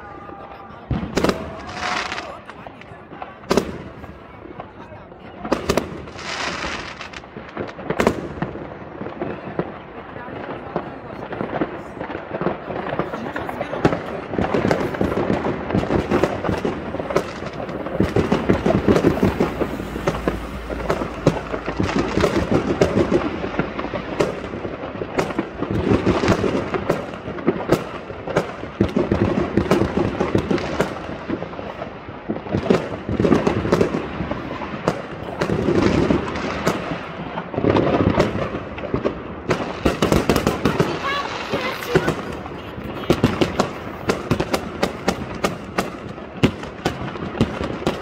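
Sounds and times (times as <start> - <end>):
fireworks crackling and banging: 0.0 - 48.0.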